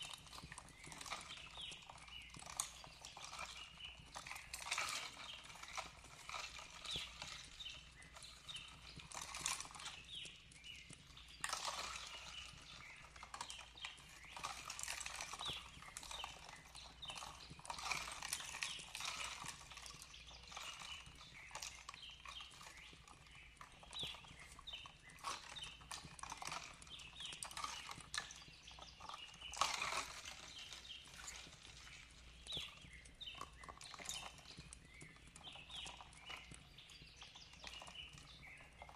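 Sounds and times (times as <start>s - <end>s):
faint birds chirping: 0.0s - 38.9s
fire crackling and popping: 0.0s - 38.9s.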